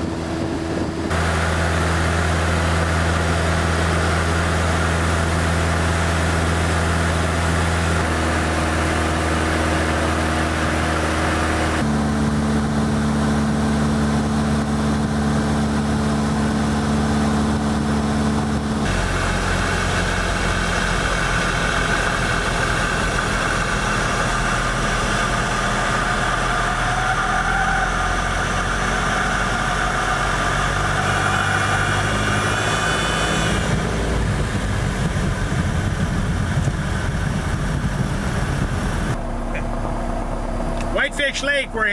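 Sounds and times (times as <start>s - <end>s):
plane engine and propeller droning: 0.0s - 41.9s.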